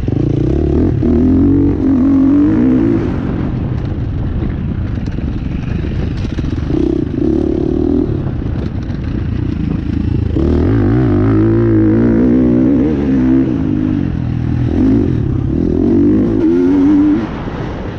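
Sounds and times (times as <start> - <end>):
dirt bike engine revving: 0.0 - 3.5, 5.9 - 17.6.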